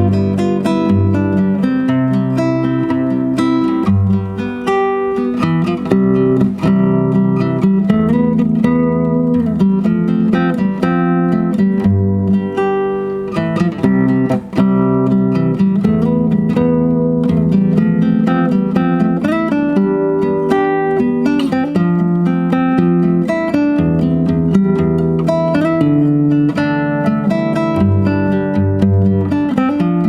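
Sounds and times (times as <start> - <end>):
fingerstyle acoustic guitar: 0.0 - 30.0.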